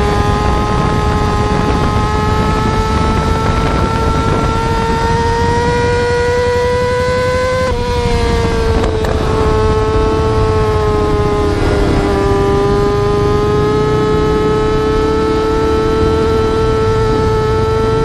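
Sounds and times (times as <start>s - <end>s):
motorcycle engine at high revs: 0.0s - 18.0s
wind rumble: 0.0s - 18.0s.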